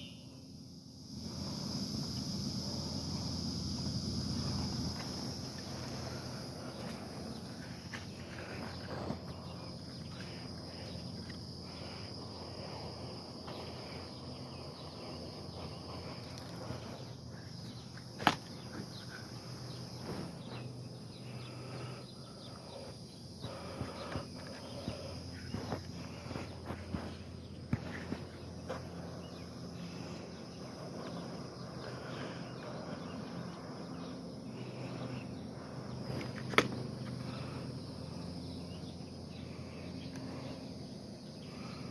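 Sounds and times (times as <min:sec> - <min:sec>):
insect chirring: 0:00.0 - 0:41.9
low hum: 0:00.1 - 0:41.8.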